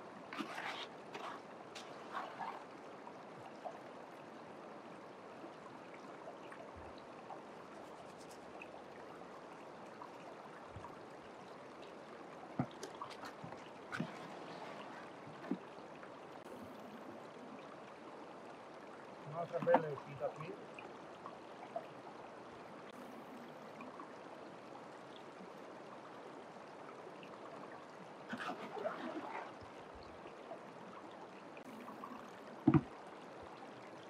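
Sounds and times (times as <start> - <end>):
creek water running over stones: 0.0 - 34.0.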